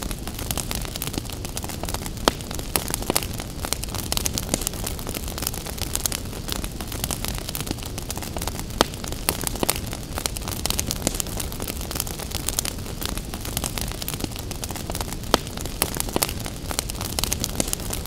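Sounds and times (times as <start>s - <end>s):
fire popping: 0.0s - 18.0s
low fire rumble: 0.0s - 18.0s
wood fire crackling: 0.0s - 18.0s.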